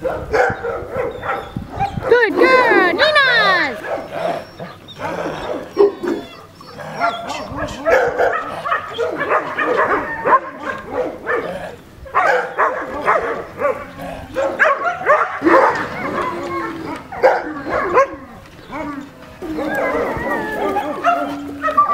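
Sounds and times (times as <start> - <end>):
young dog vocalizing: 0.2 - 21.9.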